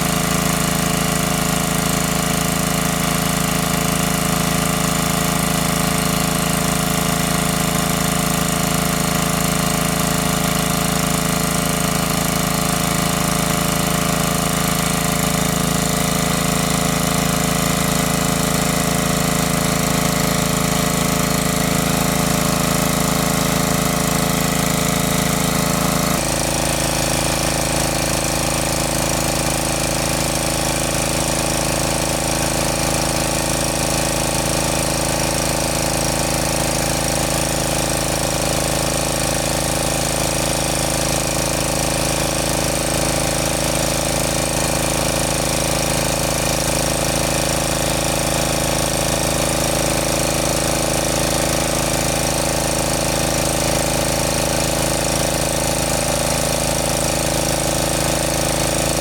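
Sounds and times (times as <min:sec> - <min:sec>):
engine-driven water pump running: 0:00.0 - 0:59.0.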